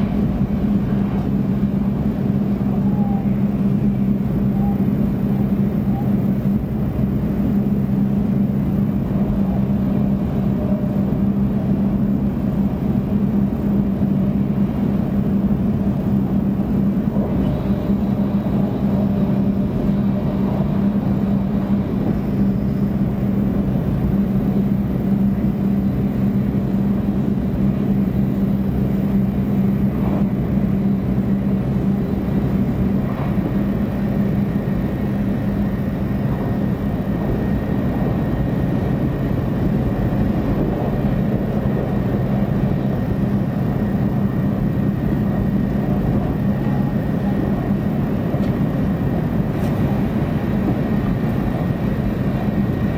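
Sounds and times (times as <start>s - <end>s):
train interior rumble: 0.0s - 52.9s.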